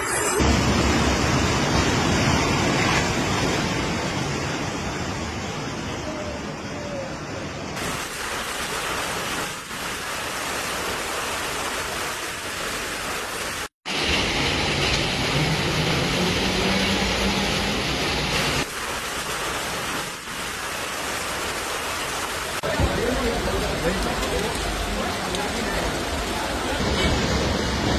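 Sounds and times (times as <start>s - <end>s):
heavy rain hissing: 0.0s - 27.9s.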